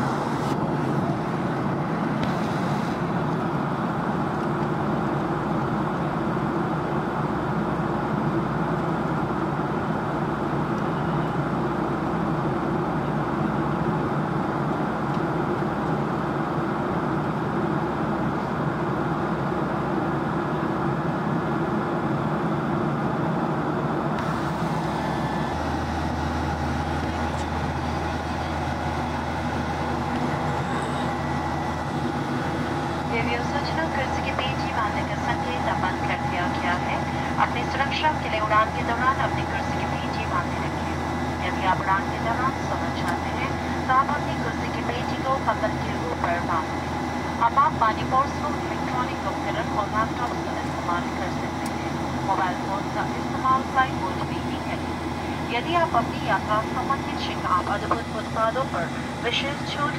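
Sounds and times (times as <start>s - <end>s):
jet engine drone in cabin: 0.0s - 59.9s
low hum: 0.0s - 59.9s.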